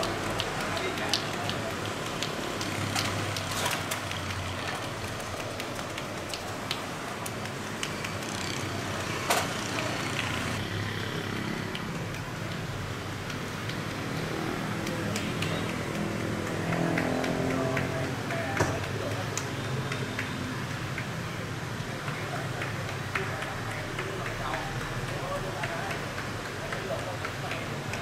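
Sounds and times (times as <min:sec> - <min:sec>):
sharp clicks and taps: 0:00.0 - 0:10.4, 0:11.6 - 0:14.0, 0:14.7 - 0:21.4, 0:22.0 - 0:28.0
road traffic hum: 0:00.0 - 0:28.0.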